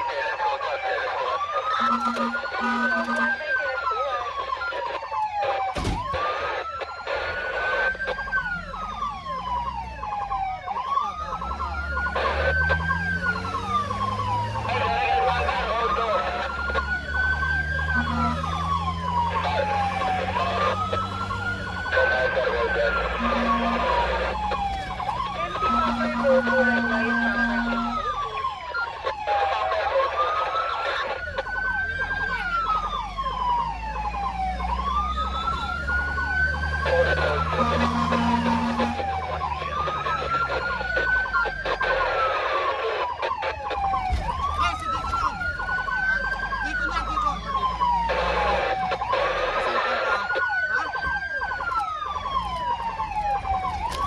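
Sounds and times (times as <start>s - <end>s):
emergency siren wailing: 0.0s - 54.0s
engine and road rumble: 0.0s - 54.0s.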